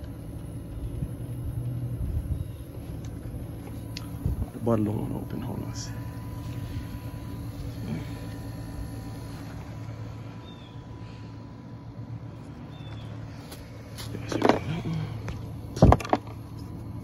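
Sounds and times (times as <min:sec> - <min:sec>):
outdoor air conditioner unit humming: 0:00.0 - 0:17.0.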